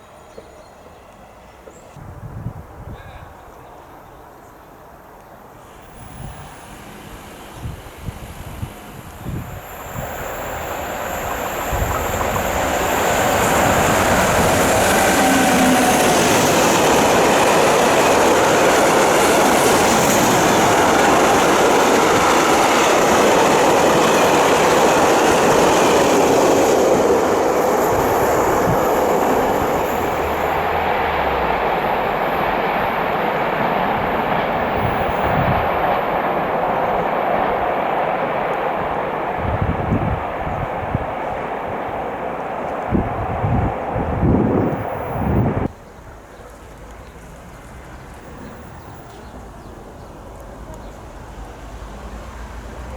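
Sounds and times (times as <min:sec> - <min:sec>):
train passing with wheel and rail noise: 0:00.0 - 0:52.9.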